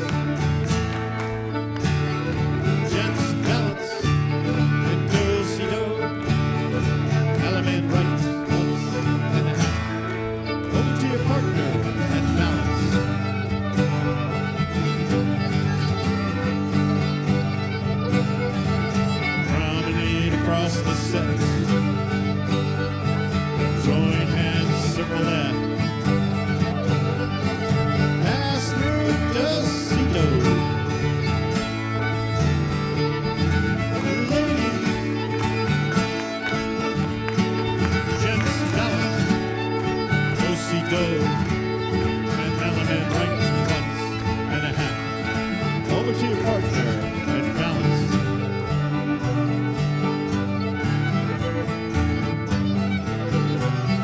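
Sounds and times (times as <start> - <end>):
fiddle playing tune: 0.0 - 54.0
guitar: 0.0 - 54.0
string band playing reel: 0.0 - 54.0.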